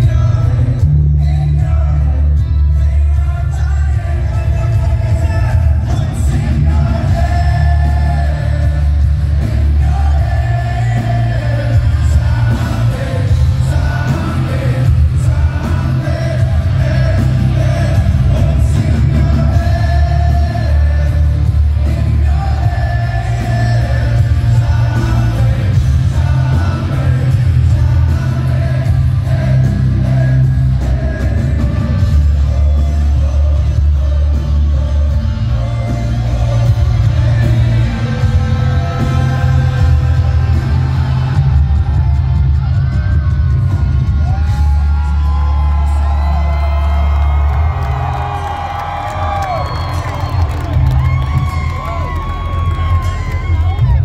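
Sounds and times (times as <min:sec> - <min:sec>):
man singing: 0:00.0 - 0:50.4
live rock band playing: 0:00.0 - 0:54.0.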